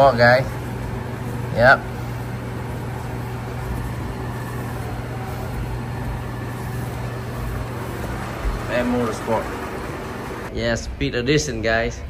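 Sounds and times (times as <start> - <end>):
machinery humming and hissing: 0.0 - 10.7.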